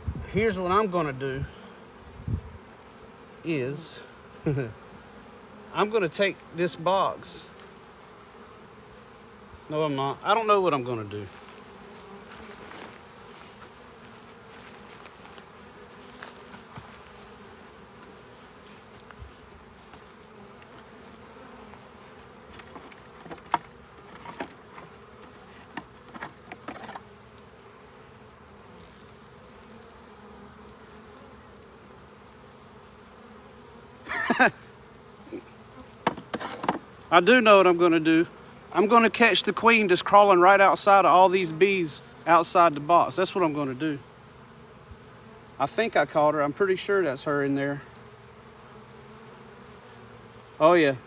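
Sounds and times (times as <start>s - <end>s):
bees buzzing: 0.0s - 51.0s.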